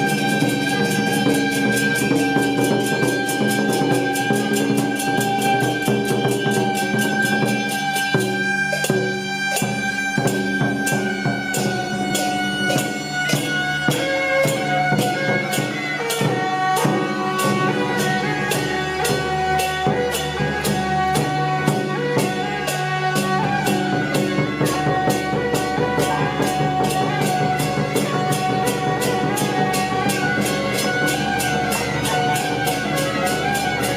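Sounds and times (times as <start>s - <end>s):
drums and cymbals beating: 0.0s - 33.9s
reedy wind instrument: 0.0s - 33.9s.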